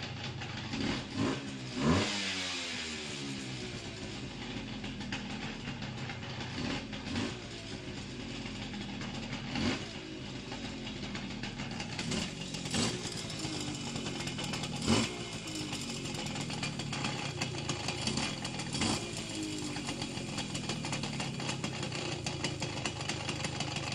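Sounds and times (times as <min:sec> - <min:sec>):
moped engine idling and revving: 0:00.0 - 0:23.9.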